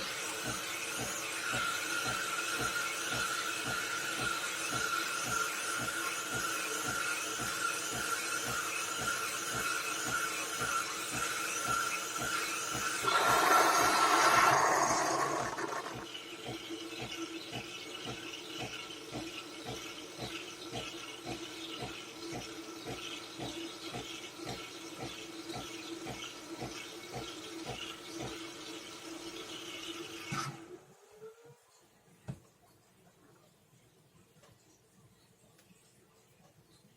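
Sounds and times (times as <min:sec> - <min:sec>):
espresso machine pump pulsing: 0:00.0 - 0:31.6.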